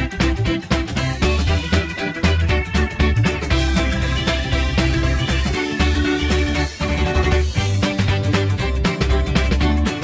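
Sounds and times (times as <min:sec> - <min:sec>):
music with drums and heavy bass: 0:00.0 - 0:10.0.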